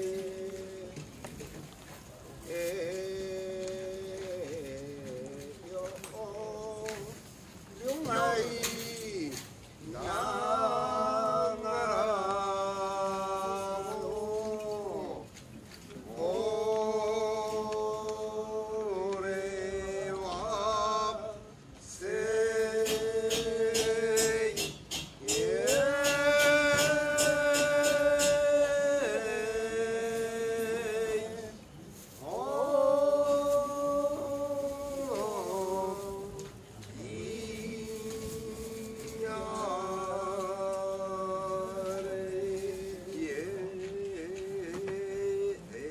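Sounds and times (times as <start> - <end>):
man chanting long call: 0.0 - 1.7, 2.3 - 45.9.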